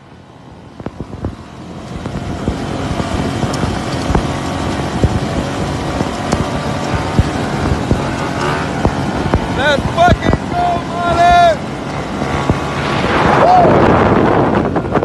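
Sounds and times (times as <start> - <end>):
vehicle engine and road noise: 0.0 - 15.0
wind on microphone: 0.0 - 15.0.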